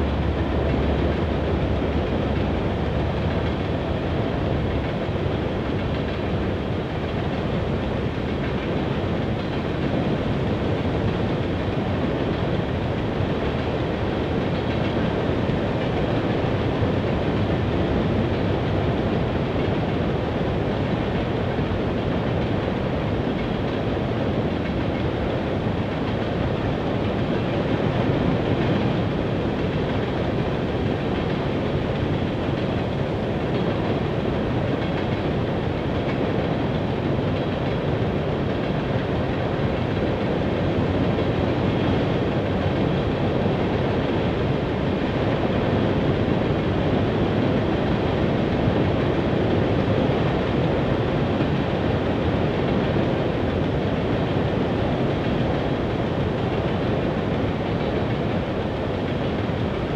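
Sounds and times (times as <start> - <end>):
freight train wheels clattering on rail: 0.0 - 59.9.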